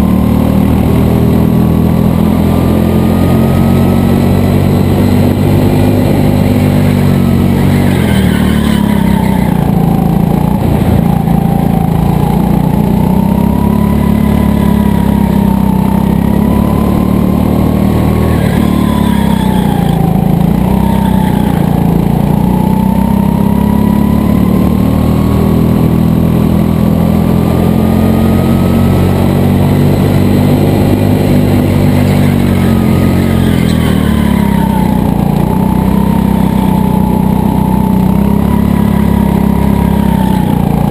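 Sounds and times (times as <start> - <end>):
go-kart motor running hard: 0.0 - 40.9.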